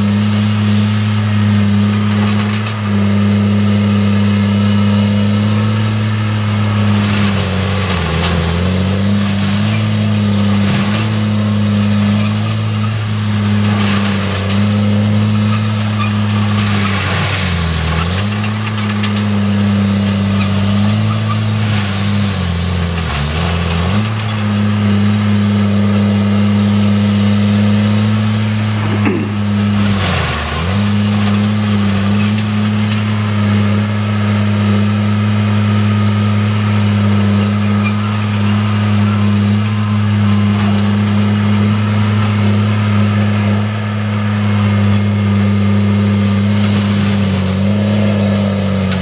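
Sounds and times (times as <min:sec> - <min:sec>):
diesel engine running hard: 0:00.0 - 0:49.0
mulcher shredding brush: 0:00.0 - 0:49.0.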